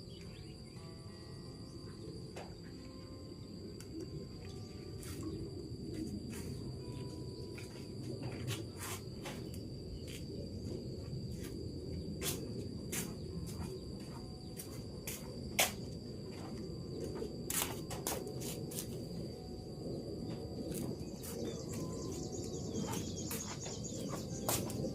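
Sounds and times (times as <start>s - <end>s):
high insect drone: 0.0s - 24.9s.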